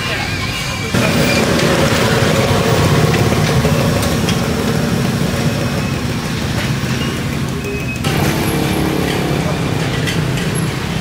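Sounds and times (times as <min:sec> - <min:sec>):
busy street noise: 0:00.0 - 0:11.0
car engine rumble: 0:00.9 - 0:11.0.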